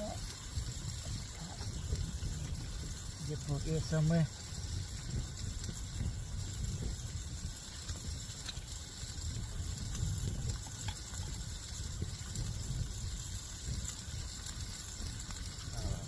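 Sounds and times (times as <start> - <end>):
constant high hiss: 0.0 - 16.0
high wind buffeting tent: 0.0 - 16.0.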